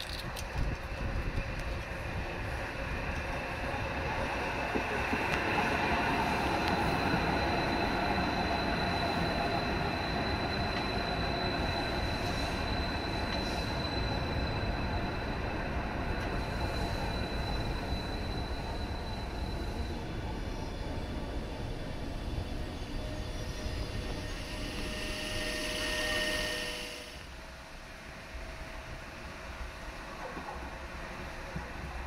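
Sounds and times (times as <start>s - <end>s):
thin high train whine: 0.0s - 32.0s
wheels rumbling on rail: 0.0s - 32.0s.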